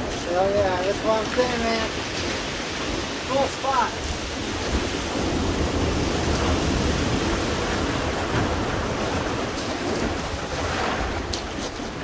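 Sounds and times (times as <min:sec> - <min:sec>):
surf washing over pebbles: 0:00.0 - 0:12.0.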